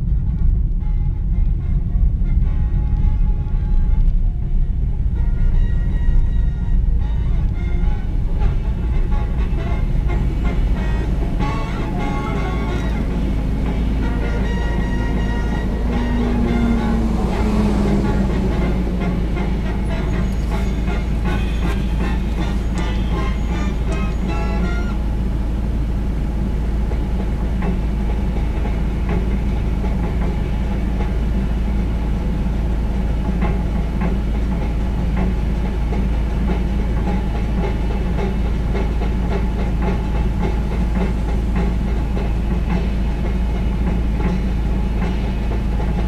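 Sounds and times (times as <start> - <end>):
car engine idling: 0.0 - 46.0
light irregular ticking: 0.0 - 46.0.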